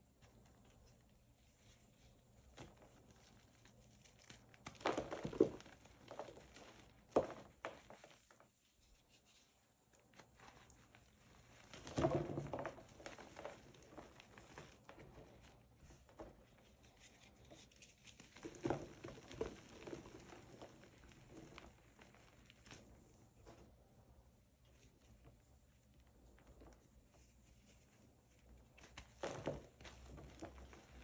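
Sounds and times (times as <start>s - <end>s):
powder crumbs pattering: 0.0s - 31.0s.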